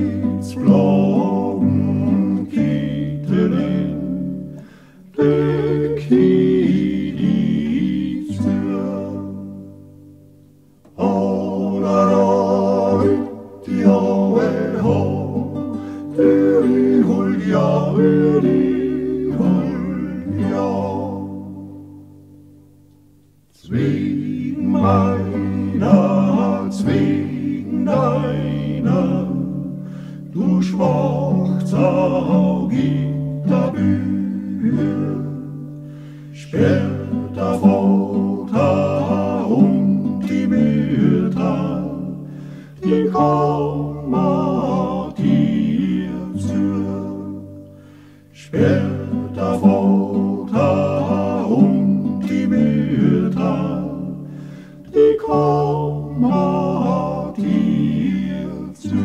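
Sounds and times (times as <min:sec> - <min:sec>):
male vocal quartet singing: 0:00.0 - 0:09.8, 0:10.9 - 0:22.0, 0:23.6 - 0:59.0
acoustic guitar: 0:00.0 - 0:59.0.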